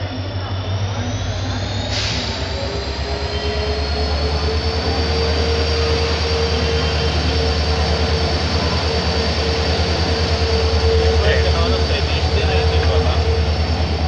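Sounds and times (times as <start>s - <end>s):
diesel locomotive rumble: 0.0s - 14.0s.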